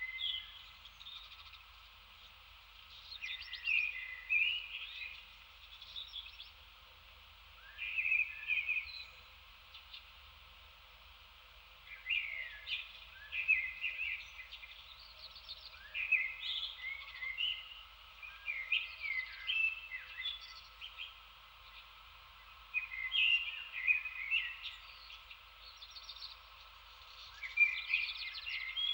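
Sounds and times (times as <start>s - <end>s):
songbird singing: 0.0s - 11.1s, 11.7s - 28.9s.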